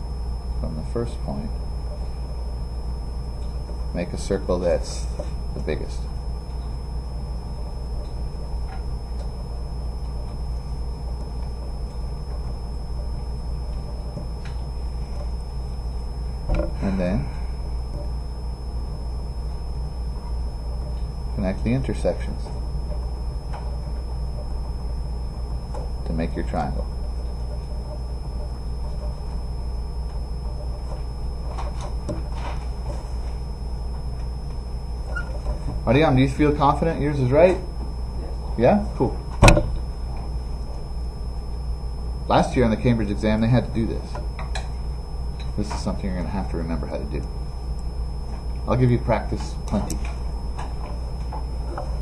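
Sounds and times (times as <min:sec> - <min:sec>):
low room hum and rumble: 0:00.0 - 0:52.0.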